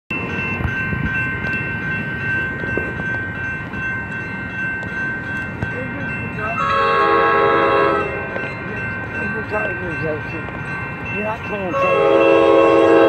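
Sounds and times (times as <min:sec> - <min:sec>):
railroad crossing bell ringing: 0:00.1 - 0:13.0.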